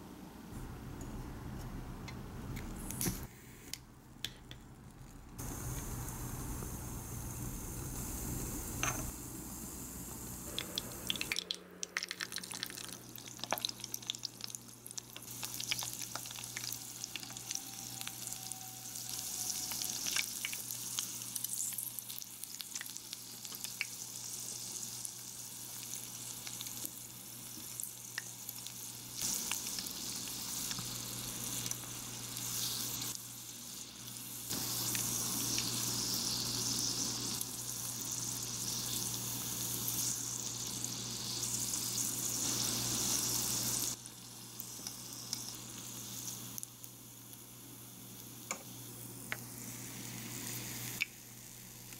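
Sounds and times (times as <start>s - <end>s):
food deep-frying in oil: 5.4s - 51.9s.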